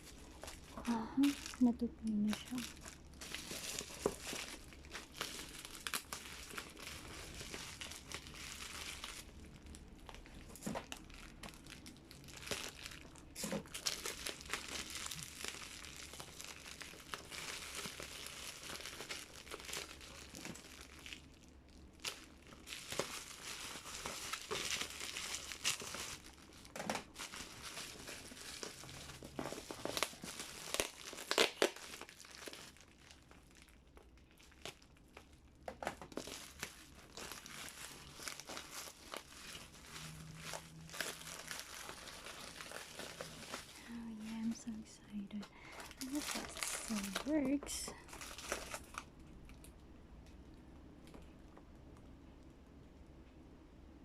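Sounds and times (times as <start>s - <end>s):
packaging crinkling and rustling: 0.0s - 49.8s.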